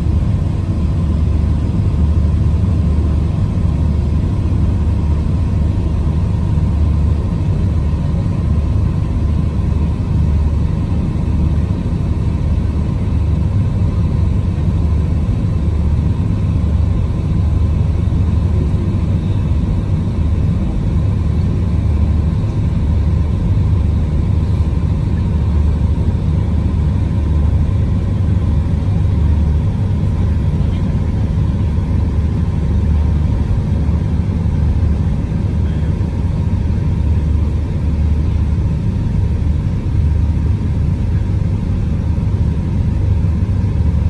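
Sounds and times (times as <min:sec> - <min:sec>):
boat engine rumble: 0:00.0 - 0:44.0
faint steady hum: 0:00.0 - 0:44.0.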